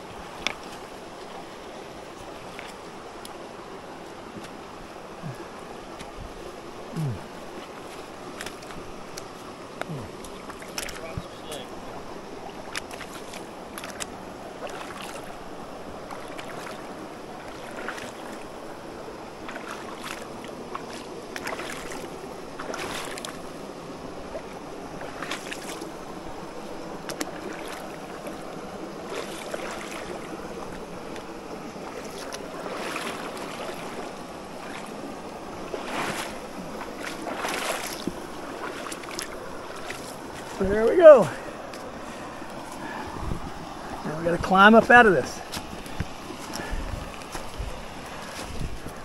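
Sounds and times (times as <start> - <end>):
stream rushing: 0.0 - 49.0
boots splashing in water: 0.1 - 3.5, 4.2 - 49.0.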